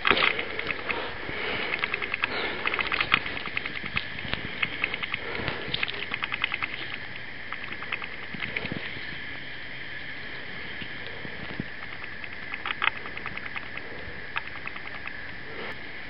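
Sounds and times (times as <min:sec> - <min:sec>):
fast regular clicking: 0:00.0 - 0:09.0, 0:10.8 - 0:15.7
raccoon chewing and slurping: 0:00.0 - 0:09.1, 0:10.7 - 0:15.8.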